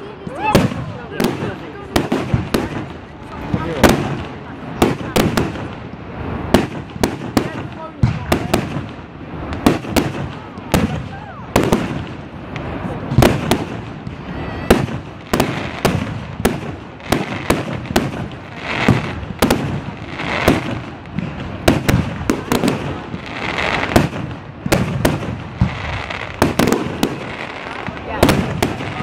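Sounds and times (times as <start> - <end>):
fireworks bangs: 0.0 - 29.0
fireworks crackling hiss: 0.0 - 29.0.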